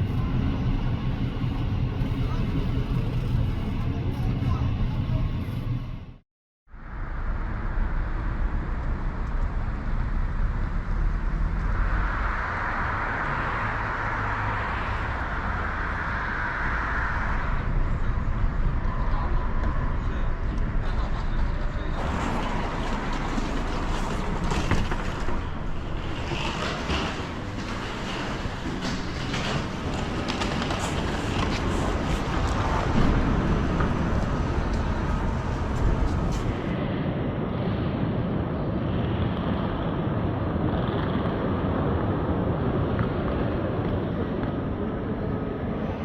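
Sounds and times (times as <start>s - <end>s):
train low rumble: 0.0s - 46.0s.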